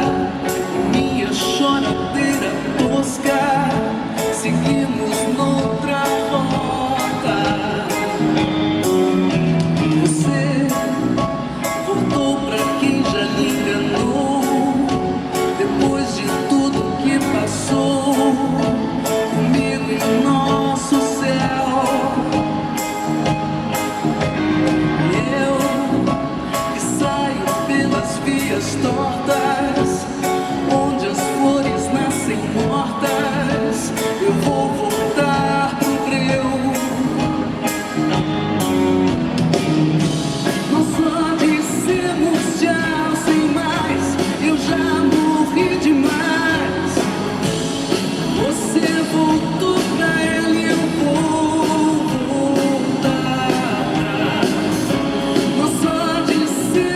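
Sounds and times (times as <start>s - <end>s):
person singing: 0.0s - 39.1s, 40.0s - 56.9s
guitar: 0.0s - 56.9s
live band music: 0.0s - 56.9s.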